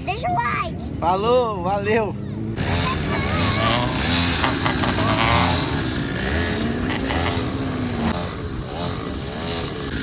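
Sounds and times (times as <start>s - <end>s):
motorcycle engines revving: 1.6s - 10.0s.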